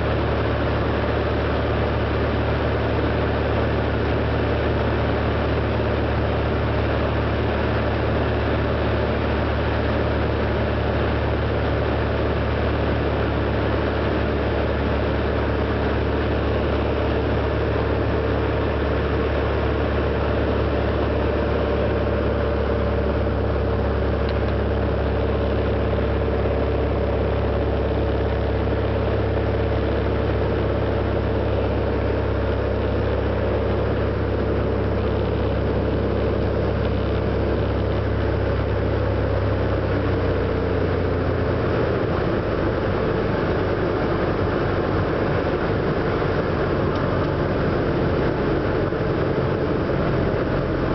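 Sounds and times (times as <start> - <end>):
plane engine and propeller droning: 0.0 - 50.9.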